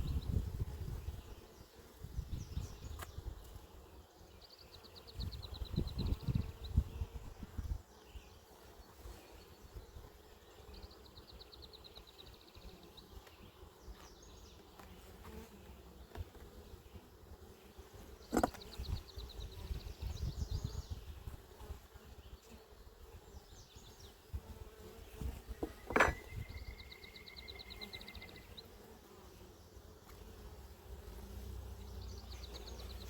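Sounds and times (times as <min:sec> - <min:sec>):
bees buzzing: 0:03.4 - 0:33.0.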